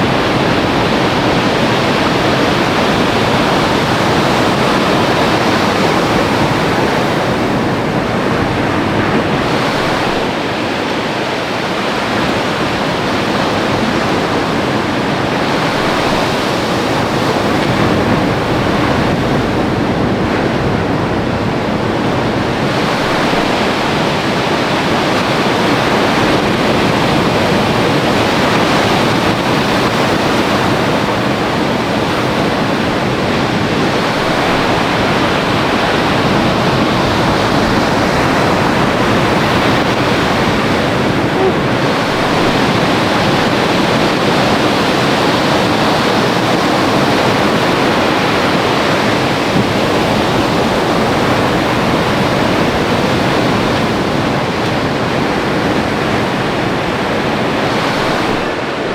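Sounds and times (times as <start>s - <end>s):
ocean surf breaking: 0.0s - 58.9s.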